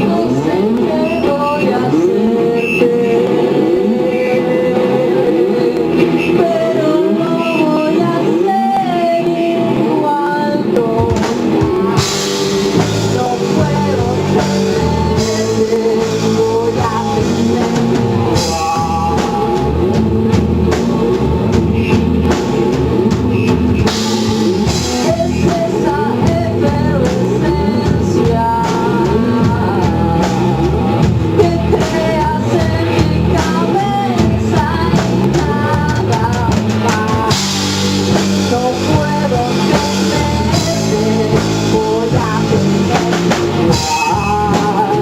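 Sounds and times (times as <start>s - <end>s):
person singing: 0.0s - 23.1s, 23.8s - 45.0s
rock band playing live: 0.0s - 45.0s.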